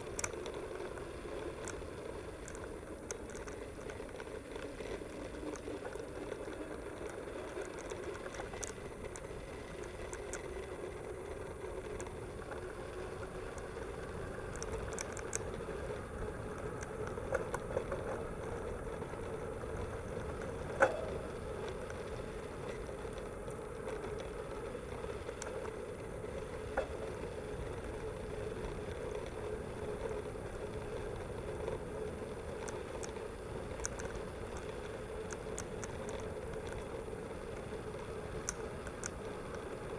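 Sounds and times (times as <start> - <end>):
bike rattling: 0.0 - 39.9.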